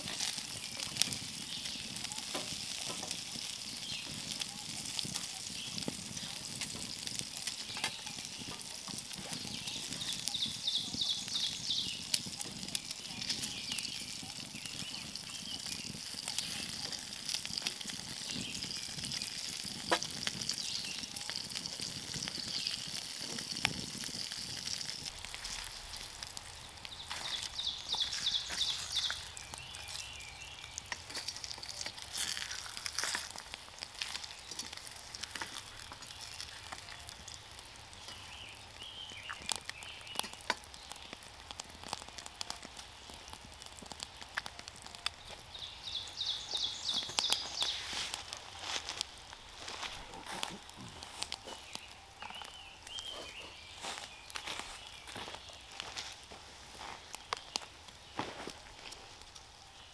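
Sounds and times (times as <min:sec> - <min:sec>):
fire pops and crackles: 0:00.0 - 0:59.9
food sizzling in a pan: 0:00.0 - 0:59.9.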